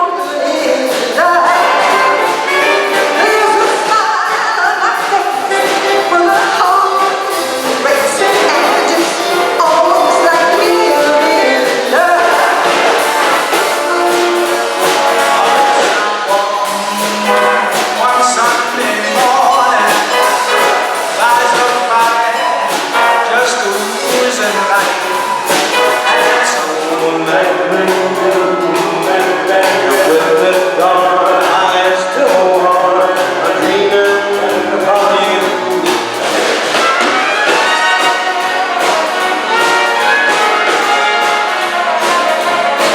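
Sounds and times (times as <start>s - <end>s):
big band playing swing: 0.0s - 42.9s
steady cymbal beat: 0.0s - 42.9s
trumpets and trombones: 0.0s - 42.9s.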